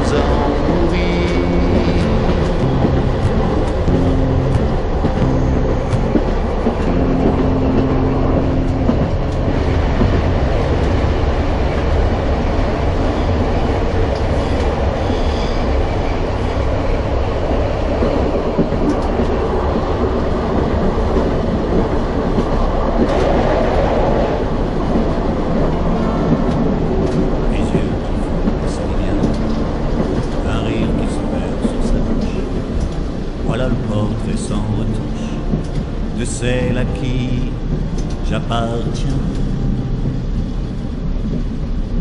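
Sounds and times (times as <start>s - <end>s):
low hum: 0.0s - 42.0s
train wheels rumbling: 0.0s - 42.0s.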